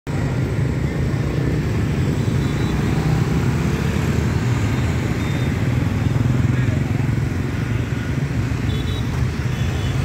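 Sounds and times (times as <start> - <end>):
motorbikes passing over level crossing: 0.1 - 10.0.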